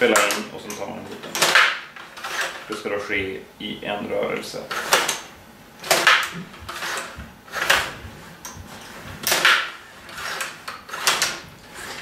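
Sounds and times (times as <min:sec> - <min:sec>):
table hockey rods clattering: 0:00.0 - 0:03.0, 0:04.6 - 0:12.0.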